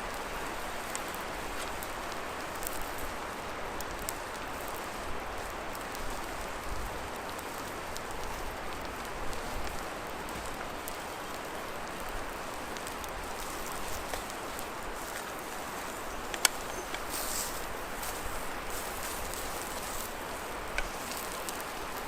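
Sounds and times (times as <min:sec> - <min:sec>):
fire pops and crackles: 0:00.1 - 0:22.0.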